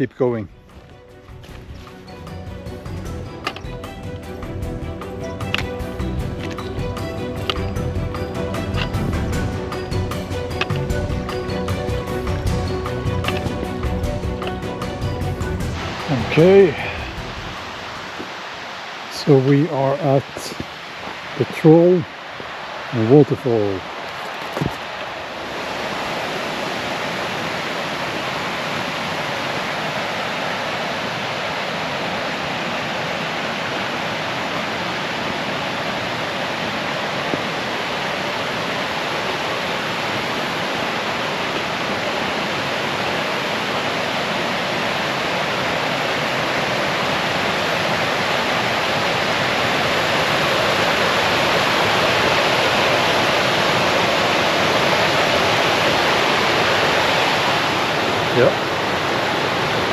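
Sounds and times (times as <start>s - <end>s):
waterfall rushing water: 0.0s - 59.9s.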